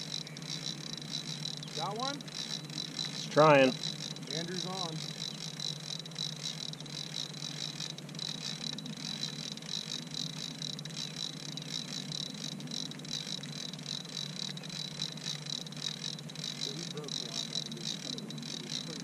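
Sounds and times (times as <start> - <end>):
low steady hum: 0.0 - 19.0
pulsing insect chorus: 0.0 - 19.0.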